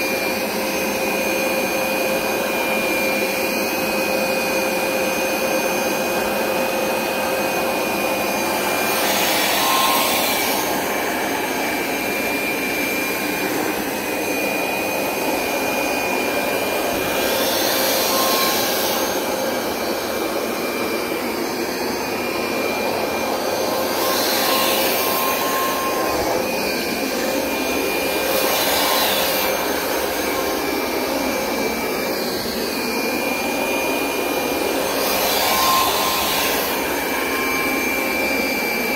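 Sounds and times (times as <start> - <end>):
carpet cleaner motor whine: 0.0 - 38.9.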